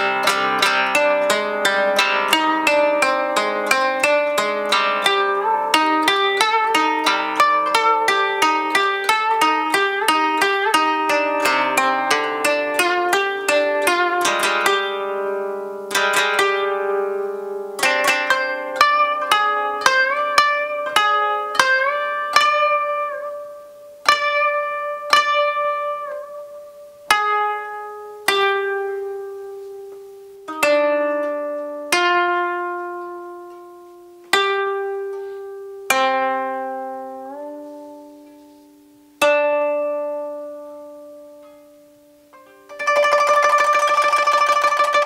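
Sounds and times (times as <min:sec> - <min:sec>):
plucked zither notes: 0:00.0 - 0:45.0.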